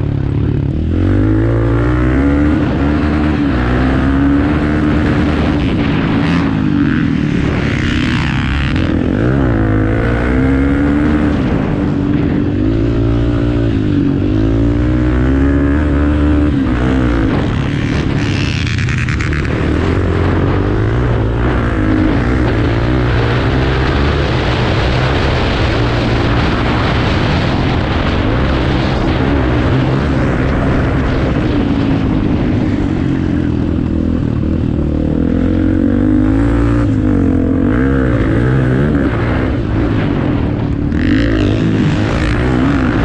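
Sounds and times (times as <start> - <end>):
motorcycle engines revving: 0.0 - 43.0.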